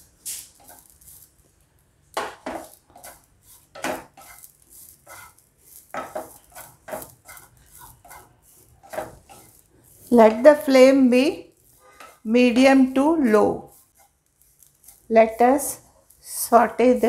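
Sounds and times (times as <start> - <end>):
wooden spatula scraping frying pan: 0.2 - 1.5, 2.2 - 17.0.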